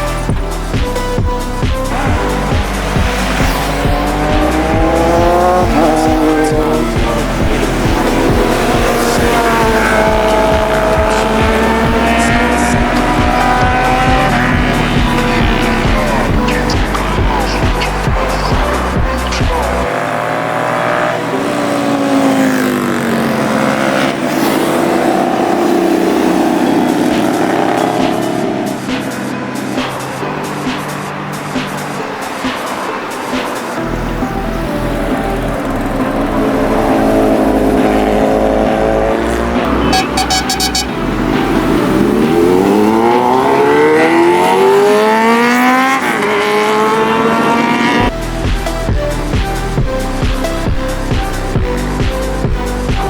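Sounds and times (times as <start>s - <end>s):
music with heavy beat: 0.0s - 20.1s, 26.2s - 46.8s, 47.6s - 53.0s
motorcycle engines passing at speed: 0.0s - 48.6s.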